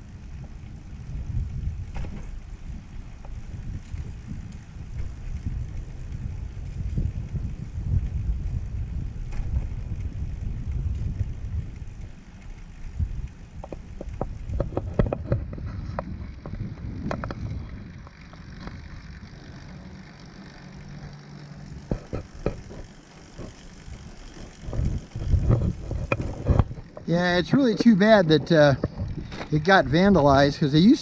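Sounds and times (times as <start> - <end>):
bike clicks and rattles: 0.0 - 31.0
wind on microphone: 0.0 - 31.0.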